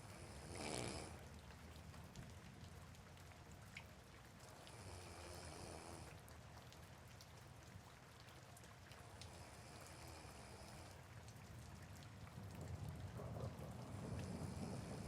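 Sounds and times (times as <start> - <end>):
raindrop ticks: 0.0 - 15.0
soft rain hiss: 0.0 - 15.0.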